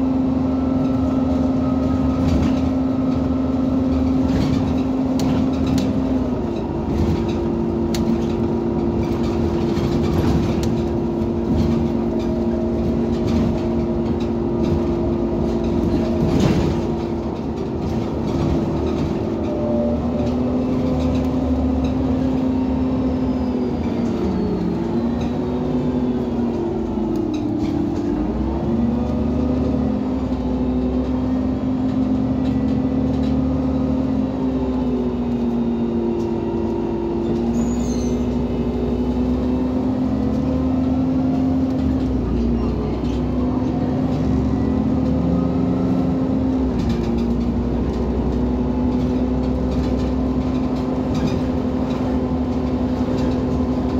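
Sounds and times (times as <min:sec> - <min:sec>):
bus engine idling: 0:00.0 - 0:53.9.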